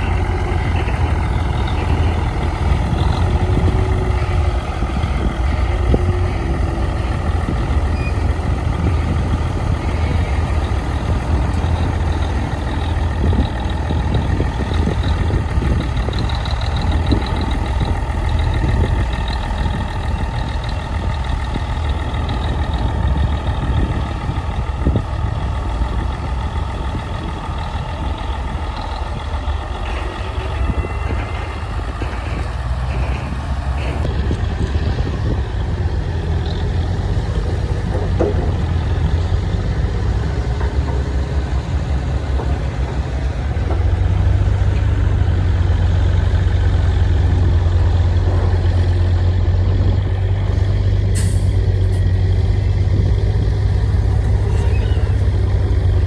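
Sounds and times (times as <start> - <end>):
diesel machinery engine rumbling: 0.0 - 56.0.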